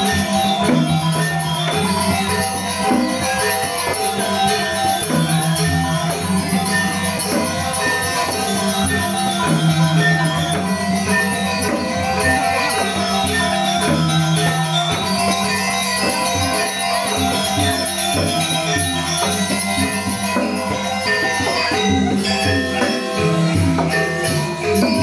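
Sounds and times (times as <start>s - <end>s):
gamelan music: 0.0s - 25.0s.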